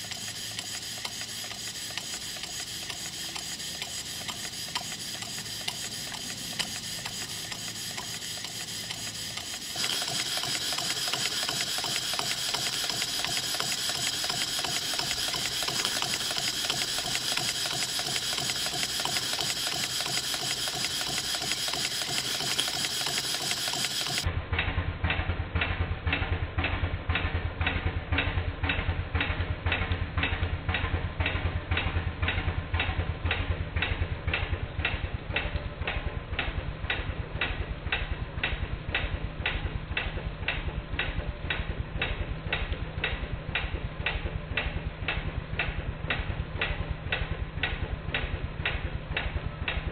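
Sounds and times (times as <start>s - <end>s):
steam engine hiss and ticking: 0.0s - 24.3s, 27.1s - 49.9s
steam locomotive exhaust chuffs: 0.0s - 49.9s.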